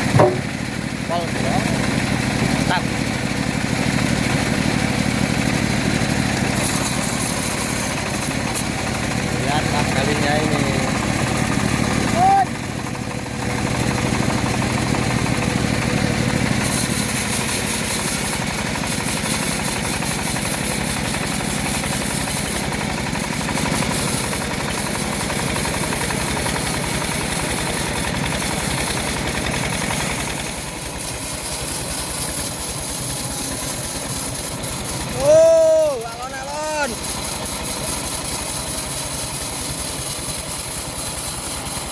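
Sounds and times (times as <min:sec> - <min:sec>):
bandsaw sawing log: 0:00.0 - 0:41.9
sawmill engine running: 0:00.0 - 0:41.9.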